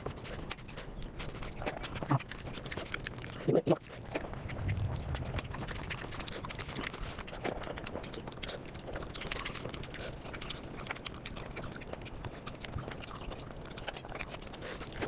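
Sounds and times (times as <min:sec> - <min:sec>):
sped up chewing and mouth noises: 0:00.0 - 0:15.0.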